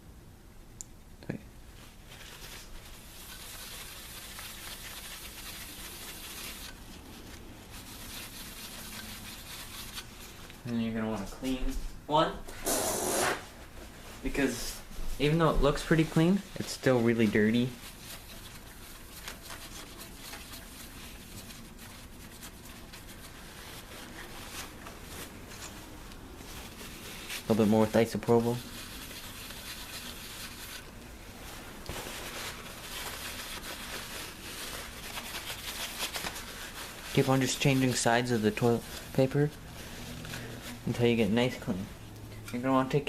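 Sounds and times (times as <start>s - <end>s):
paper scrubbing on cpu: 2.0s - 11.0s, 12.6s - 13.5s, 15.2s - 41.9s.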